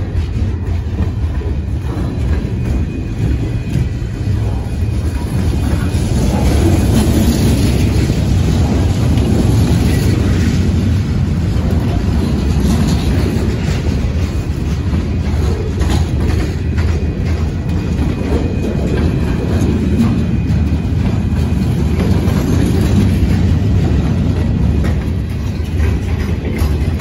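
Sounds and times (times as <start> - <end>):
steel wheels rumbling on rail: 0.0 - 27.0.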